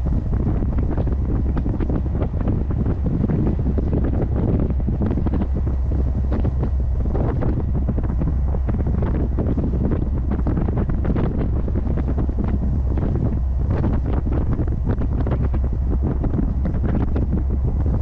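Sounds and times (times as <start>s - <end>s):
heavy wind buffeting microphone: 0.0s - 18.0s.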